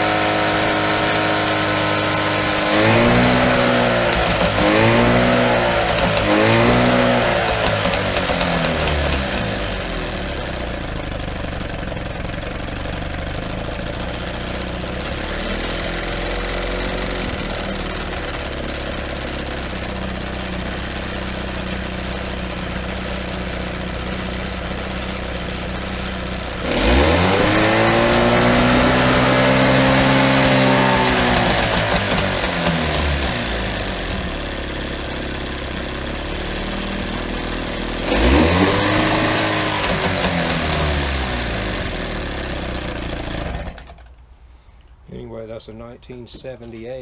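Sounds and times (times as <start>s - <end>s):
outboard motor running: 0.0s - 44.1s.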